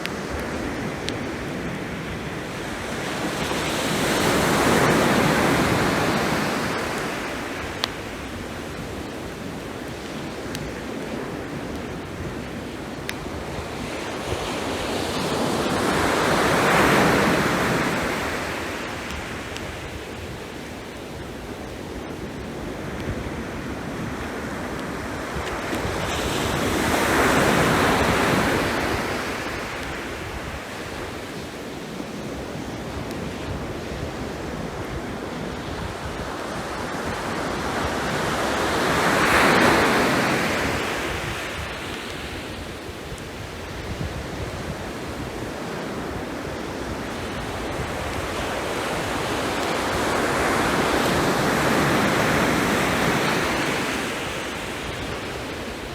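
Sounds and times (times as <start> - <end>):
surf wash: 0.0 - 55.9.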